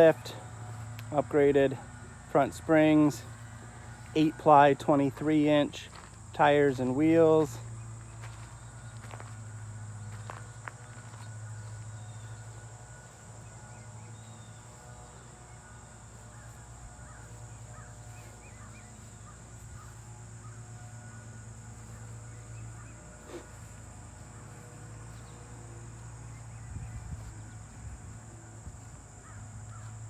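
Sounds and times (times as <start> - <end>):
birds calling: 0.0 - 30.0
high insect drone: 0.0 - 30.0
low steady hum: 0.0 - 30.0.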